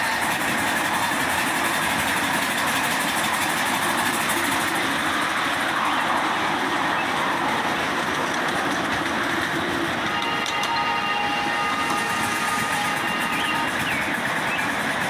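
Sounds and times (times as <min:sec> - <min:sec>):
miniature train wheels on rails: 0:00.0 - 0:15.0.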